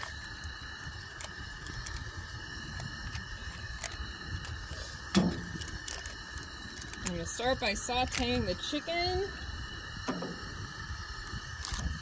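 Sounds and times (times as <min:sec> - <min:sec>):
wind on microphone: 0:00.0 - 0:12.0
wood fire crackling: 0:00.0 - 0:12.0.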